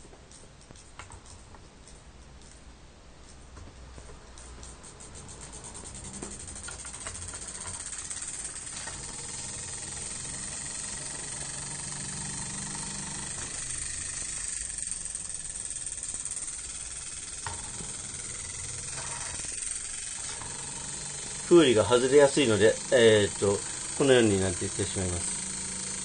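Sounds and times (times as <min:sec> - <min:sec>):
small electric motor whirring: 0:04.3 - 0:26.0.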